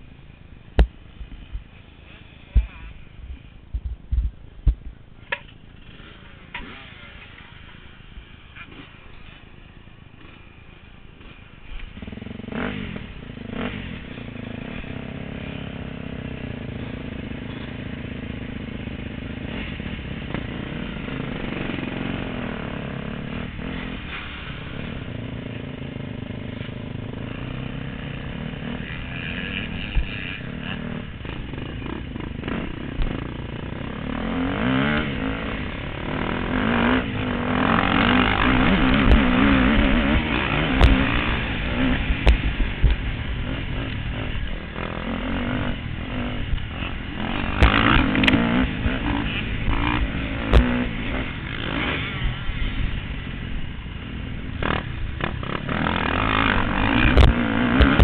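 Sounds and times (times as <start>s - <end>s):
motocross bikes revving: 0.0s - 3.6s, 5.3s - 58.0s.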